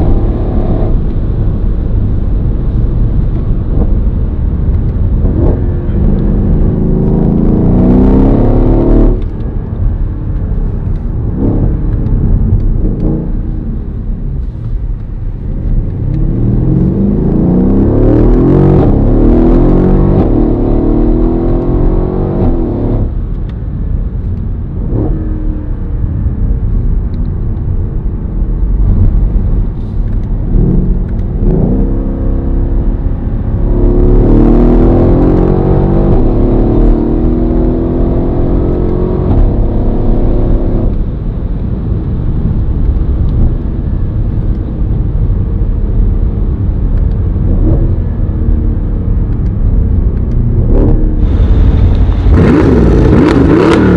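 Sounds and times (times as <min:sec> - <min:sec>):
car engine accelerating hard: 0:00.0 - 0:23.8, 0:28.2 - 0:53.9.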